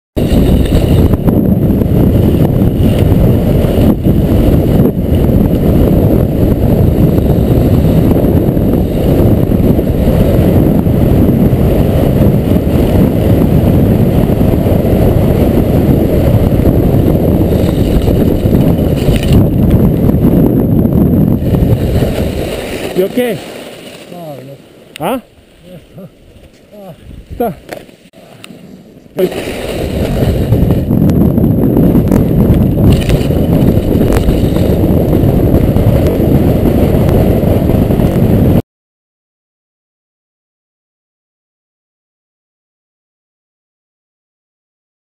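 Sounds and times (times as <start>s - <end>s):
wind rushing over microphone: 0.2s - 38.6s.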